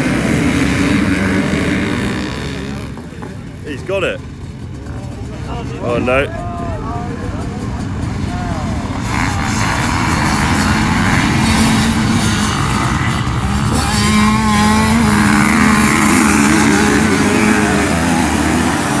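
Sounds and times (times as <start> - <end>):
dirt bike engine under load: 0.0 - 19.0.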